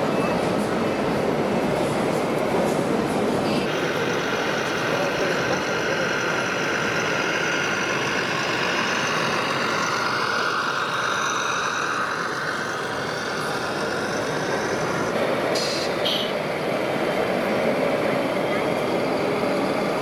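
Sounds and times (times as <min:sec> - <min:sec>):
busy hall noise: 0:00.0 - 0:20.0
diesel truck engine sound: 0:00.0 - 0:20.0.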